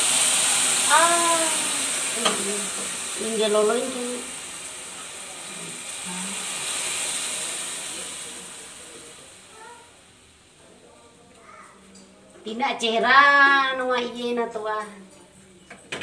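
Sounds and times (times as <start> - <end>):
milk sizzling in a hot pan: 0.0 - 14.4.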